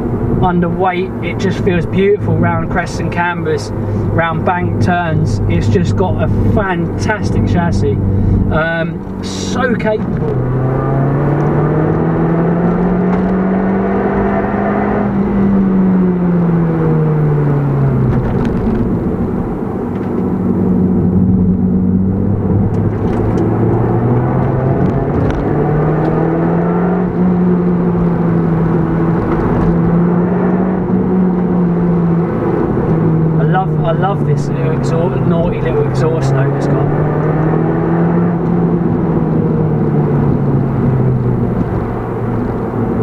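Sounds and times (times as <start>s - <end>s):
car engine revving: 0.0s - 43.0s
tyre and road noise: 0.0s - 43.0s.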